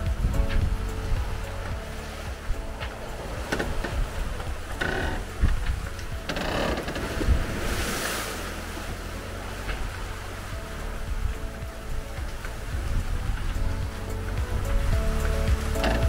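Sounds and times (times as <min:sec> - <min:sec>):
sea water rushing along hull: 0:00.0 - 0:16.0
wind buffeting microphone: 0:00.0 - 0:16.0.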